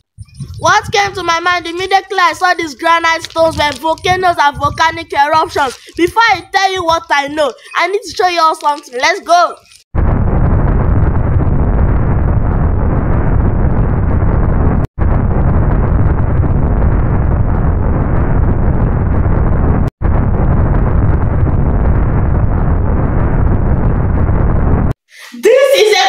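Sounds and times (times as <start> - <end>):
deep rumble: 0.0 - 7.1, 9.9 - 25.0.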